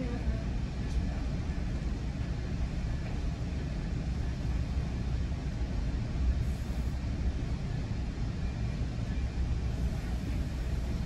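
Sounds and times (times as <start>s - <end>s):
train coach rumbling on track: 0.0s - 11.0s.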